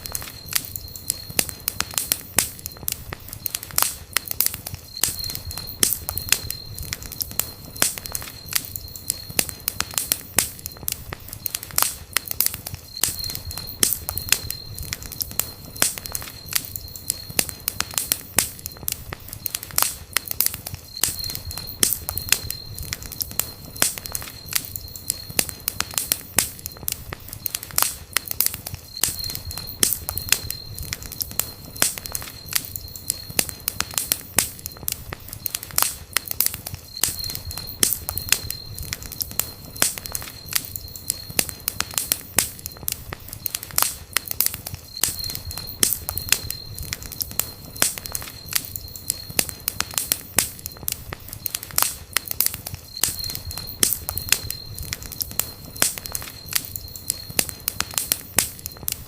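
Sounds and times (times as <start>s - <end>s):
flames rushing: 0.0s - 59.0s
wood fire crackling and popping: 0.0s - 59.0s.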